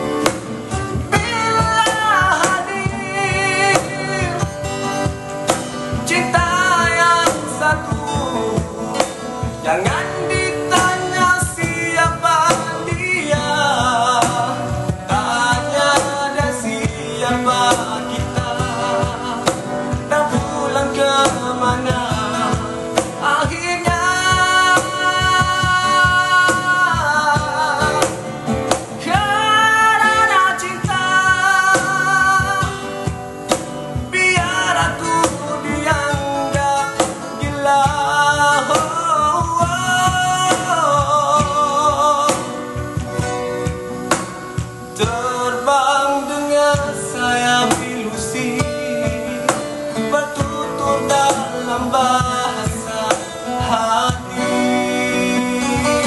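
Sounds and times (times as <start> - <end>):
man singing a pop-rock ballad: 0.0 - 56.0
strummed acoustic guitars: 0.0 - 56.0.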